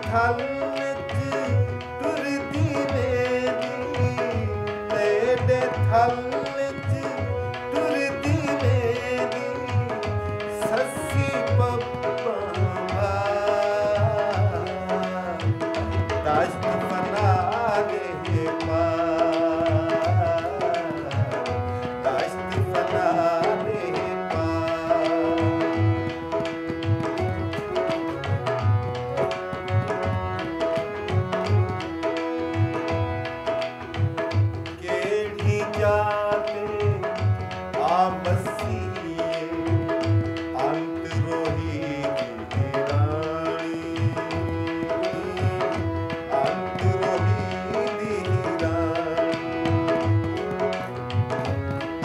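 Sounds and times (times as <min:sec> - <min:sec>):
harmonium chords: 0:00.0 - 0:52.0
man singing: 0:00.0 - 0:52.0.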